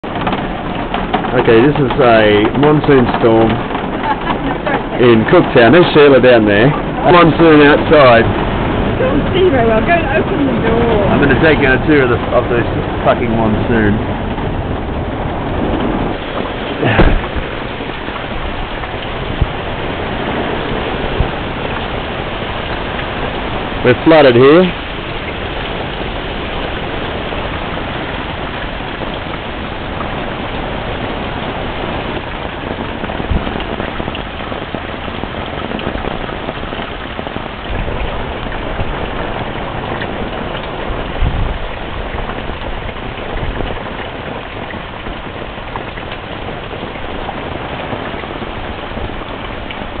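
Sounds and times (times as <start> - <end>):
heavy rain pouring: 0.0 - 50.0
low thuds: 0.0 - 50.0.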